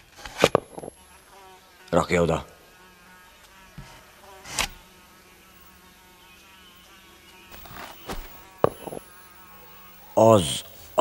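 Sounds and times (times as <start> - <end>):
insect buzzing: 0.0 - 11.0.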